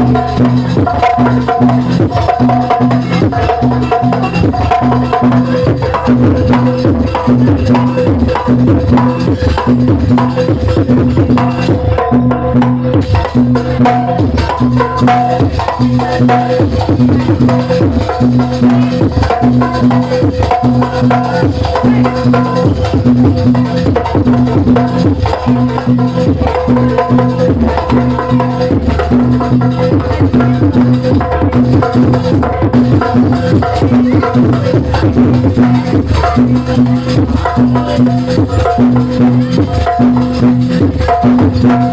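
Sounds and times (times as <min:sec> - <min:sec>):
fast drum strokes: 0:00.0 - 0:41.9.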